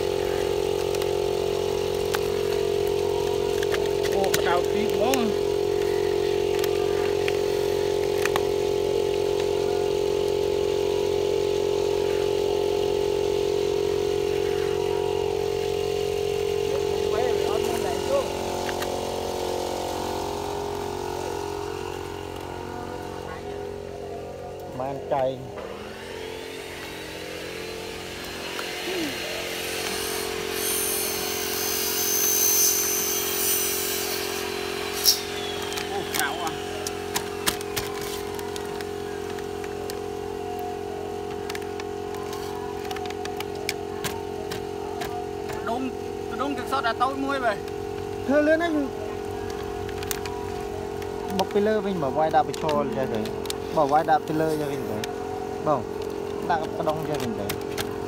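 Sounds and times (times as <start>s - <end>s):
air compressor humming: 0.0s - 58.0s.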